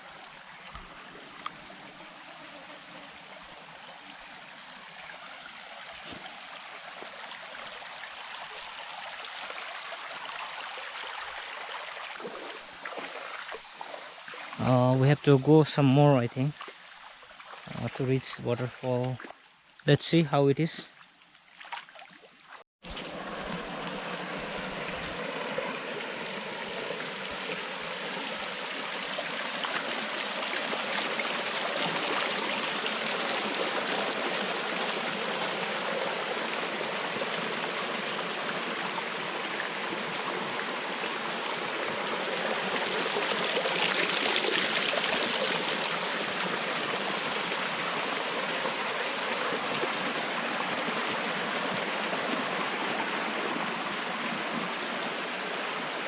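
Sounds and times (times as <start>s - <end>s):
hill stream rushing water: 0.0s - 56.0s.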